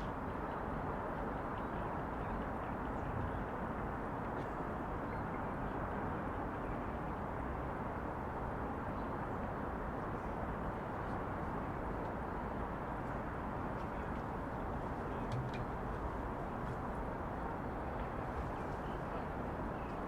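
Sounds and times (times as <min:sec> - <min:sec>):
distant traffic: 0:00.0 - 0:20.0.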